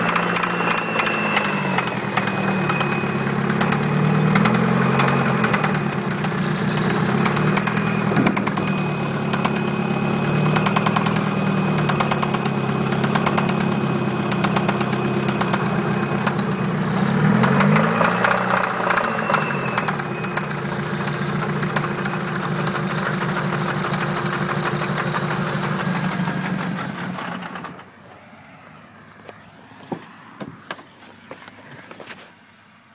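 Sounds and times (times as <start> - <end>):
car engine idling with rod knock: 0.0 - 16.5, 17.4 - 27.9, 29.3 - 32.2.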